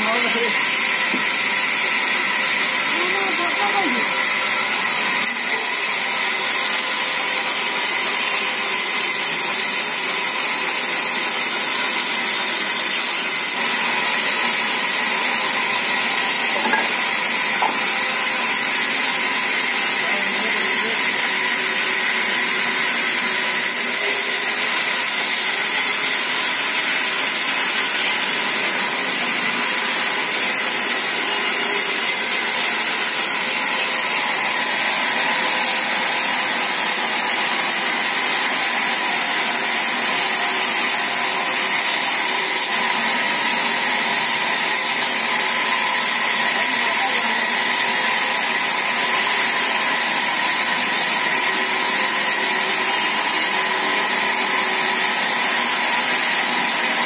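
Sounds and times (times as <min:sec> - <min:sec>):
band saw cutting through log: 0:00.0 - 0:57.0.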